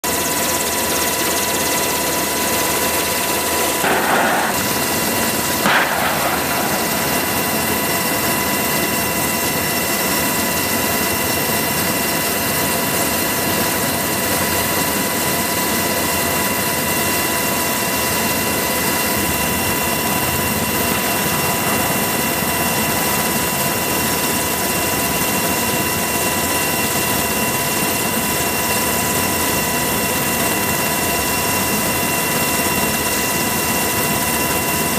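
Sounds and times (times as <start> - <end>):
helicopter engine and rotor: 0.0 - 34.9.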